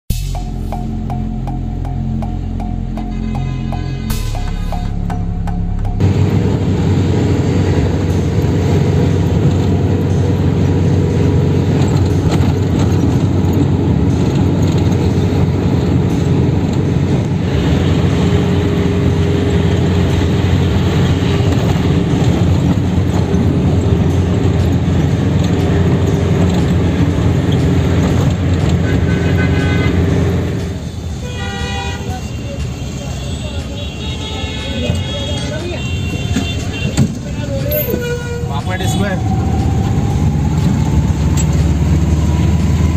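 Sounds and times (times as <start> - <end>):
car road rumble from engine and tyres: 0.1 - 42.9.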